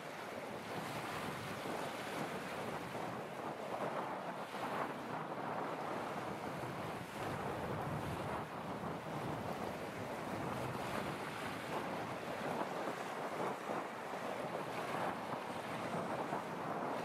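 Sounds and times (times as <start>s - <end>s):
choppy water: 0.0s - 17.0s
wind on microphone: 0.0s - 17.0s.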